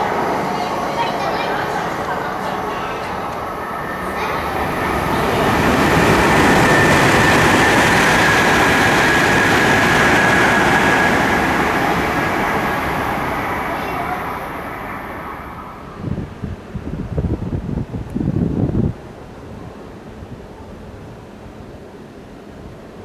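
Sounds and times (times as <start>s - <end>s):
wind buffeting microphone: 0.0s - 19.2s
high-speed train passing: 0.0s - 23.0s.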